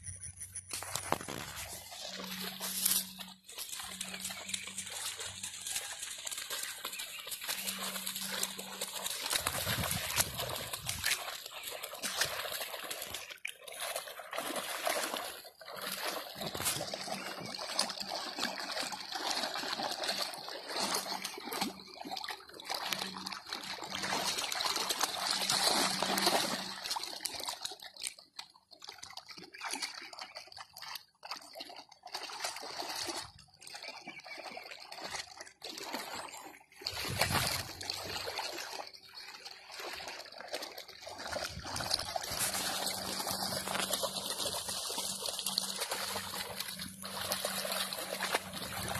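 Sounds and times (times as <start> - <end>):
puppies splashing through puddle: 0.6 - 48.9.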